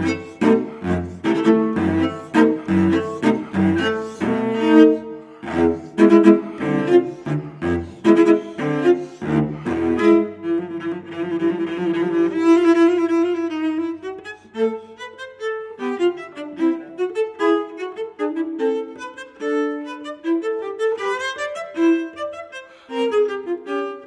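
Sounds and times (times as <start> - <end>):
bowed cello: 0.0 - 24.0.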